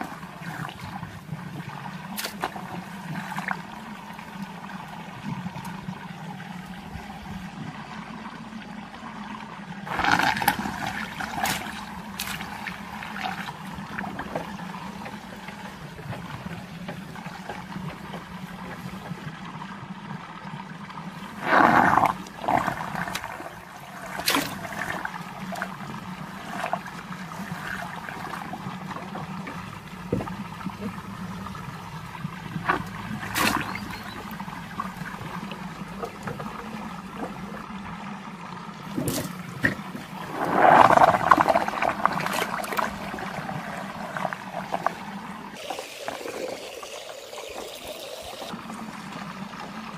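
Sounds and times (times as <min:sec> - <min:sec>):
water splashes: 0:00.0 - 0:49.9
water swirling and gurgling: 0:00.0 - 0:49.9.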